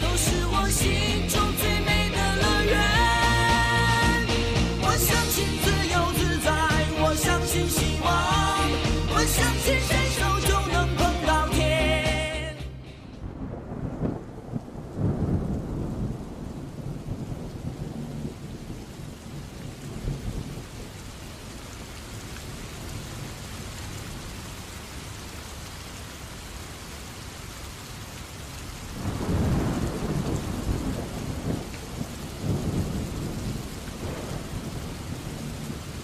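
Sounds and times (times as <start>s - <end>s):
steady rain on wet surface: 0.0s - 10.5s, 13.0s - 36.0s.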